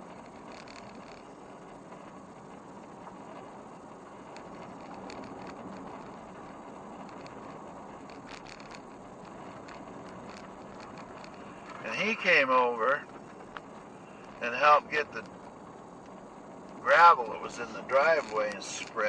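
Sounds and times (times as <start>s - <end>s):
small rattles and clicks: 0.0s - 19.0s
tyre and road noise: 0.0s - 19.0s.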